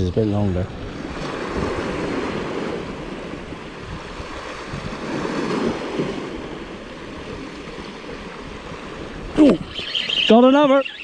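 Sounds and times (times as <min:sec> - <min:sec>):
wind buffeting microphone: 0:00.0 - 0:11.0
waves washing against rocks: 0:00.8 - 0:11.0.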